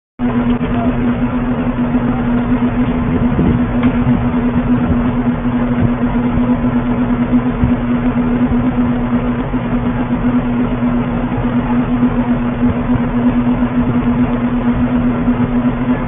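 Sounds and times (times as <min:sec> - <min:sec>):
steady hum: 0:00.2 - 0:16.0.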